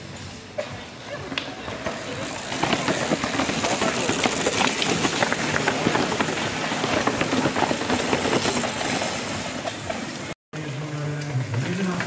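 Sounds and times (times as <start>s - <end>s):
passing train rushing and clattering: 0.0s - 12.0s.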